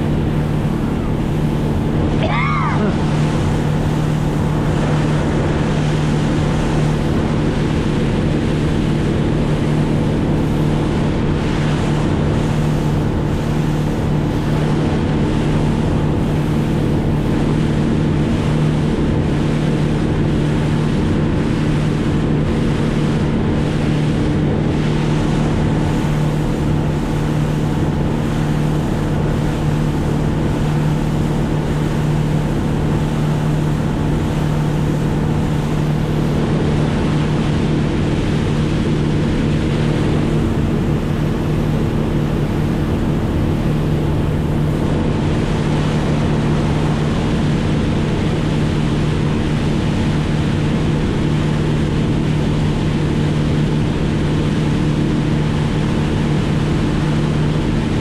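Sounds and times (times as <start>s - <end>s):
engine running with loud hum: 0.0s - 58.0s.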